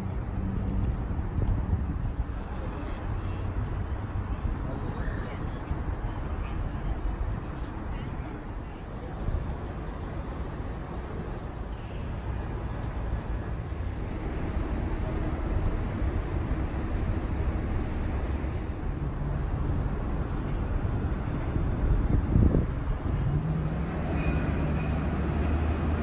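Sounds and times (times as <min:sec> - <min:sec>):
moving vehicle rumble: 0:00.0 - 0:26.0.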